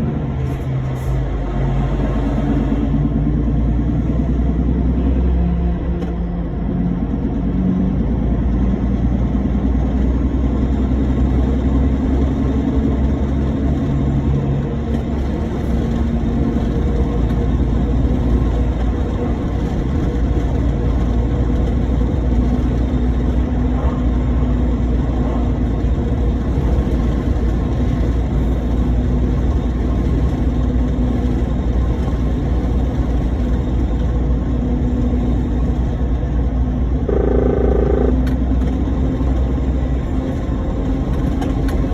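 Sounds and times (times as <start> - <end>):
lorry engine drone: 0.0 - 41.9
road rumble: 0.0 - 41.9.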